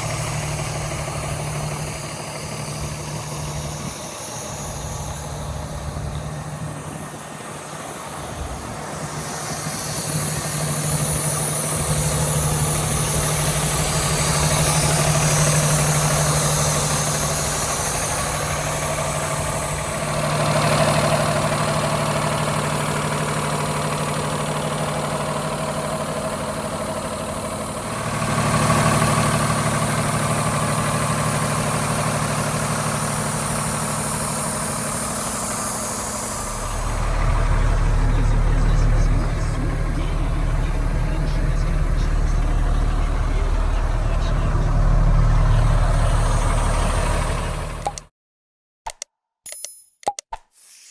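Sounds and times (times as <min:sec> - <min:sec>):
diesel truck engine idling: 0:00.0 - 0:48.1.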